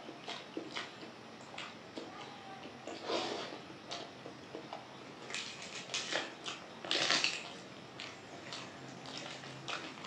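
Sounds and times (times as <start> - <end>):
close chewing with wet smacks and crunches: 0.0 - 3.0, 3.8 - 10.0.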